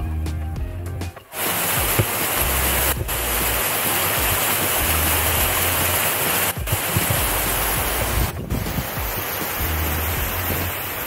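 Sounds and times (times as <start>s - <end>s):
stream rushing over cascade: 1.2s - 11.0s.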